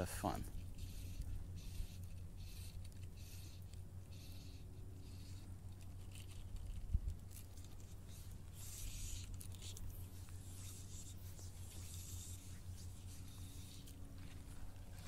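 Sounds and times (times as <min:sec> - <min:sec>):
fishing line and rod rubbing: 0:00.0 - 0:15.0
low steady hum: 0:00.0 - 0:15.0.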